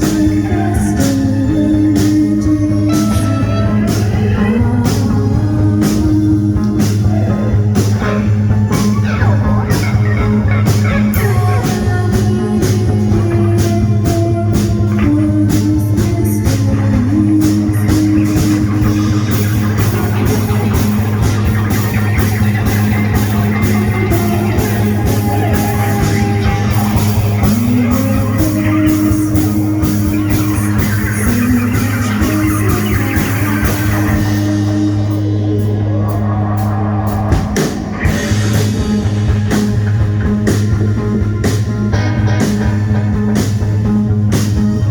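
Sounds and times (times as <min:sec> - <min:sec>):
drums and cymbal hits: 0:00.0 - 0:44.9
electric guitar lines: 0:00.0 - 0:44.9.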